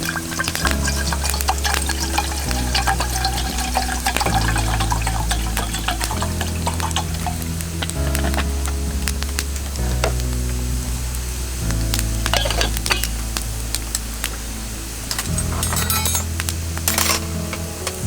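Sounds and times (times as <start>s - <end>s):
background music: 0.0s - 18.0s
food sizzling on griddle: 0.0s - 18.0s.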